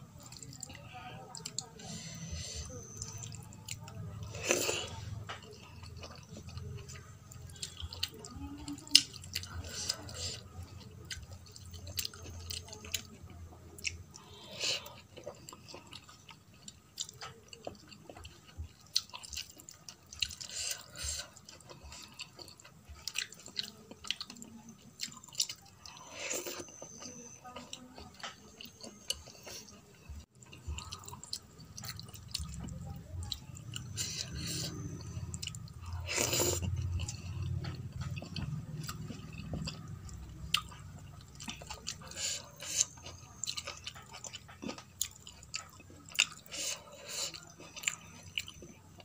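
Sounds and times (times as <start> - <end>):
chewing: 0.0 - 49.0.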